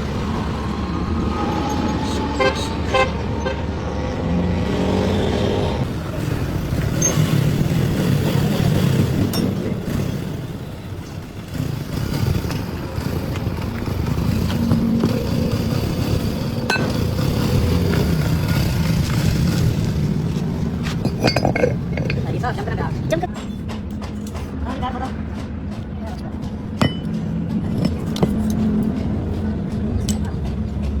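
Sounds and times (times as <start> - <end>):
street traffic clicks and clatter: 0.0 - 31.0
vehicle engines running: 0.0 - 31.0.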